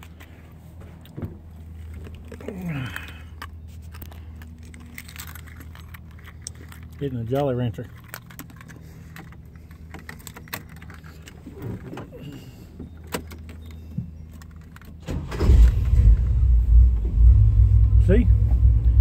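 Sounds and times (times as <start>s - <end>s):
keys jingling in ignition: 0.0s - 16.0s
engine cranking and running: 1.7s - 19.0s.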